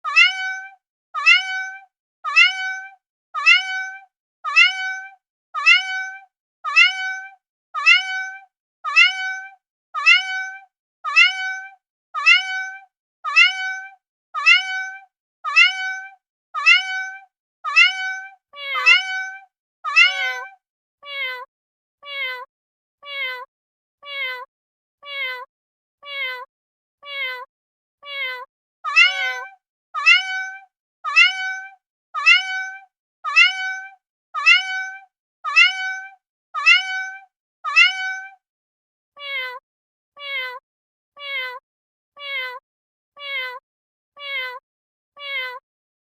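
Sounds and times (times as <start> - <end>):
cat meowing: 0.0 - 38.4, 39.2 - 39.6, 40.2 - 40.6, 41.2 - 41.6, 42.2 - 42.6, 43.2 - 43.6, 44.2 - 44.6, 45.2 - 45.6
lower falling meow: 0.1 - 38.4.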